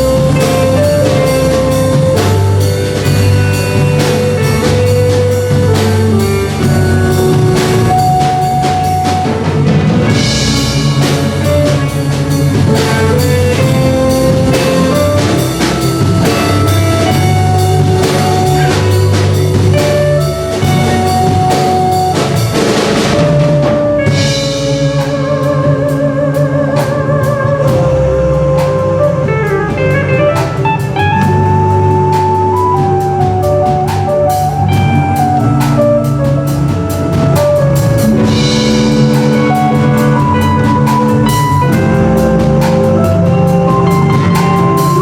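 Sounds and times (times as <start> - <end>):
live band music: 0.0 - 45.0.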